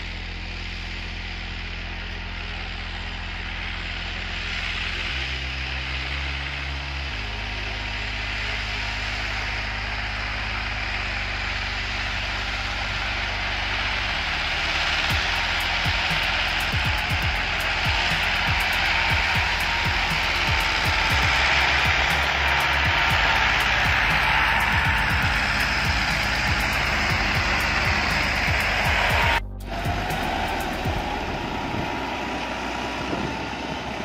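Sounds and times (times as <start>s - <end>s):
tractor diesel engine under load: 0.0s - 34.0s
low steady music notes: 0.1s - 34.0s.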